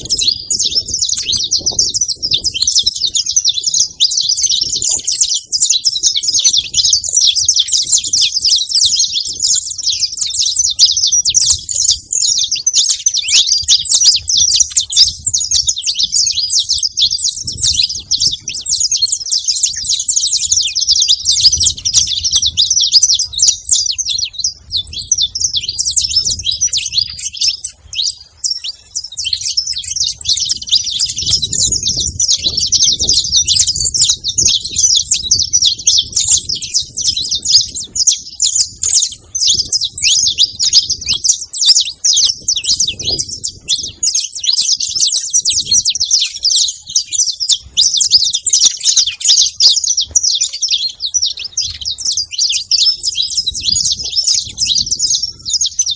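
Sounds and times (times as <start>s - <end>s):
finches chirping: 0.0s - 55.9s.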